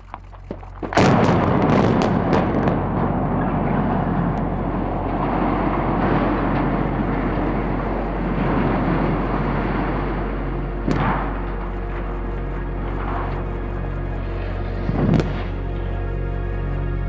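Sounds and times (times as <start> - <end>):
demolition charges cracking: 0.0 - 16.1
loud rolling rumble: 0.0 - 17.0.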